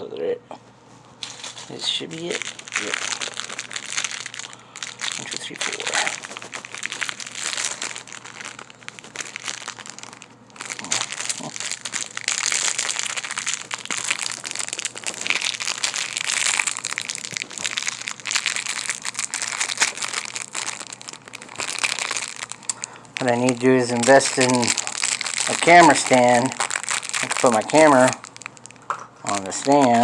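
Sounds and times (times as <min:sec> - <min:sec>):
plastic packaging crinkling: 0:01.2 - 0:30.0.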